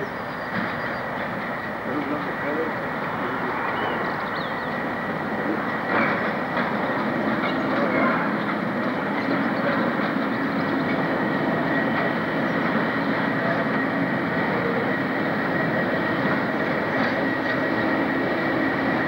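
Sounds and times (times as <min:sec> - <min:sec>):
diesel locomotive engine: 0:00.0 - 0:19.0
train wheel noise: 0:00.0 - 0:19.0.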